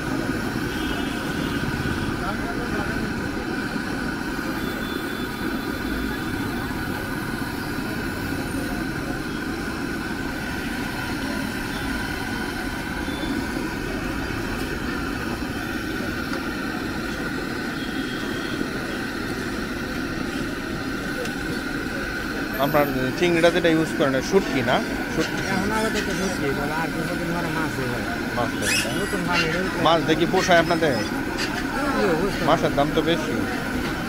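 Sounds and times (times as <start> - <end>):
oil bubbling and sizzling: 0.0 - 34.0.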